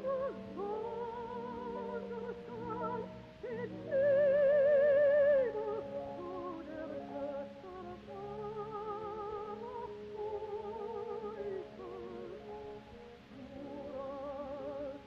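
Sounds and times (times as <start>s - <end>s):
soprano singing with vibrato: 0.0s - 15.0s.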